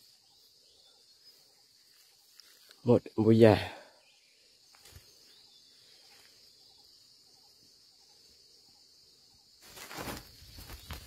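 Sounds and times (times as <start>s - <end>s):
high insect chirring: 0.0s - 11.0s.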